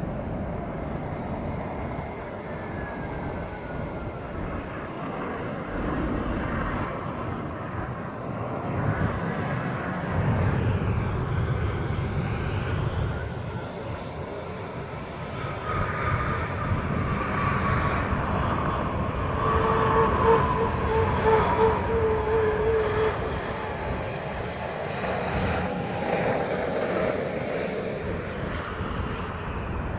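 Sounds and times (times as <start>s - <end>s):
jet engines spooling down: 0.0s - 29.9s.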